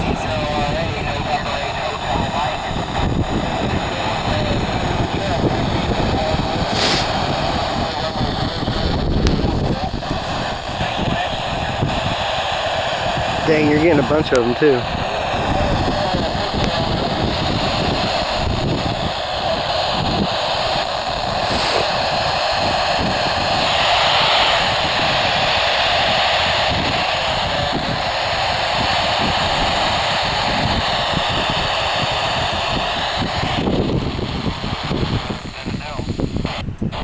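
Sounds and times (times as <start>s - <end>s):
radio static hiss: 0.0s - 37.0s.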